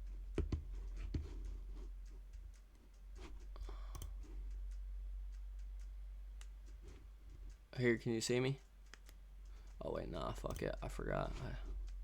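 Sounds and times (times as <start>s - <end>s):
keyboard and mouse clicks: 0.1s - 7.6s, 8.6s - 12.0s.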